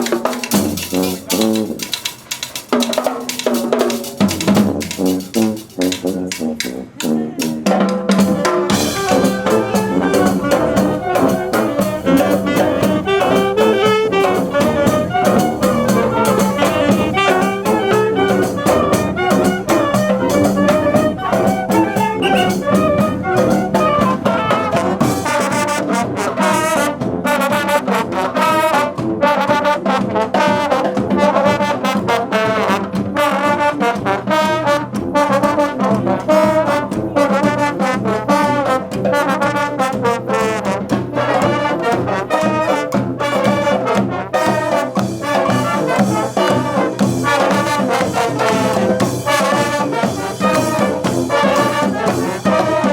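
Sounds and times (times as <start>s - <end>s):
brass marching band playing: 0.0s - 52.9s
marching drums: 0.0s - 52.9s.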